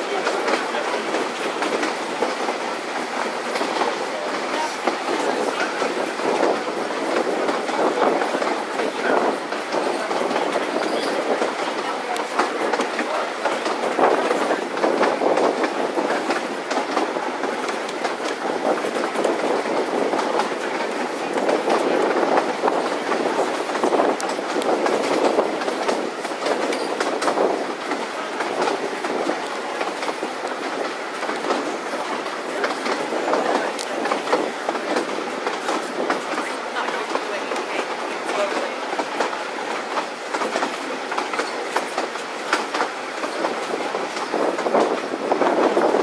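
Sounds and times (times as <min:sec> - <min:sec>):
train rumbling on track: 0:00.0 - 0:46.0
wheels clicking over rail joints: 0:00.0 - 0:46.0.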